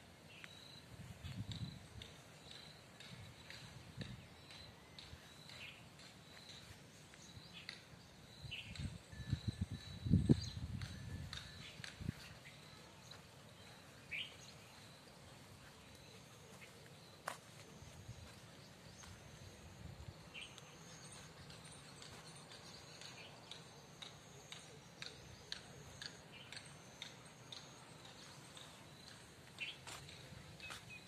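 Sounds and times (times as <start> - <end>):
faint bird chirps: 0.1 - 31.0.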